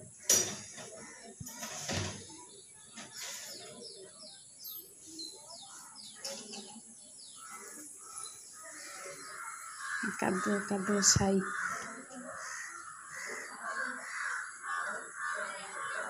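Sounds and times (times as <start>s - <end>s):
faint distant voices: 0.0s - 16.0s
small birds chirping: 0.0s - 16.0s.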